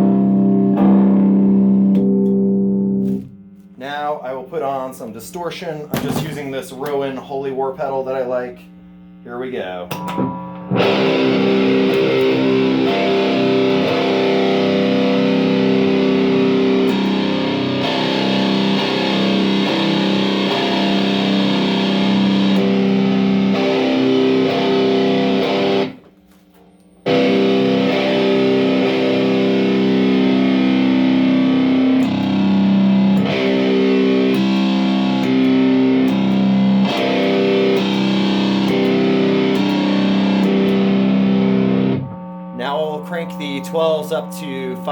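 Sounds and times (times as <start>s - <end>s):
distorted electric guitar: 0.0s - 4.2s, 6.0s - 26.1s, 27.0s - 44.9s.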